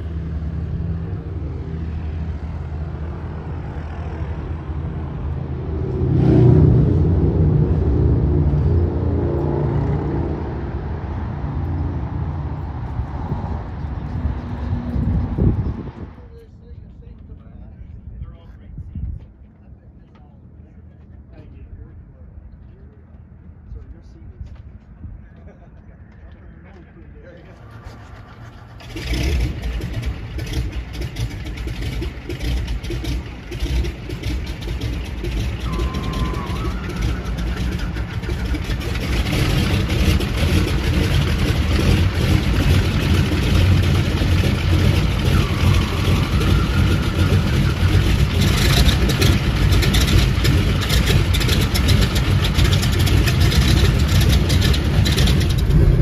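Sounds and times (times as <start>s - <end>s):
radial aircraft engines rumbling: 0.0s - 56.0s.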